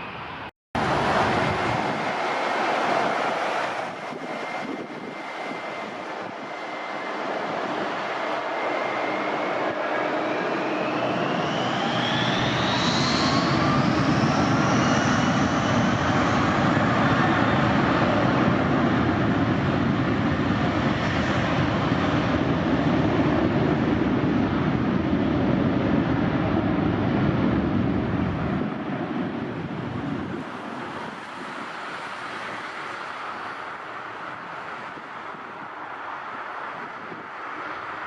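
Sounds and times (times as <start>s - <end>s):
jet engines running with whine: 0.0s - 38.0s.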